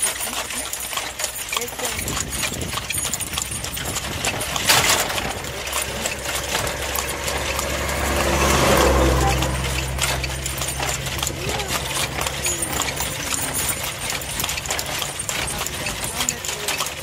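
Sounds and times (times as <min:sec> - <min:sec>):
carriage rattling: 0:00.0 - 0:17.0
hooves clip-clopping: 0:00.0 - 0:17.0
loud clatter: 0:00.0 - 0:17.0
vehicle engine passing: 0:03.0 - 0:17.0.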